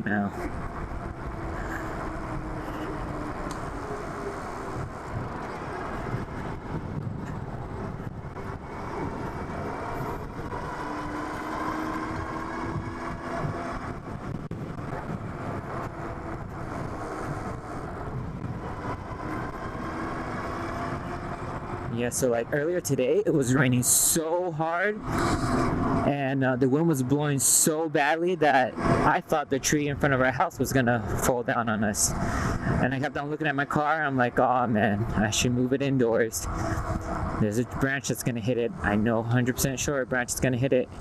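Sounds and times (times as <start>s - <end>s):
wind and tyre noise: 0.0s - 41.0s.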